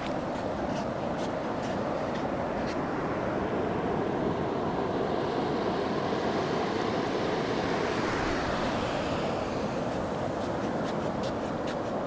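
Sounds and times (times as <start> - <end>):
small waves washing on sand: 0.0 - 12.0.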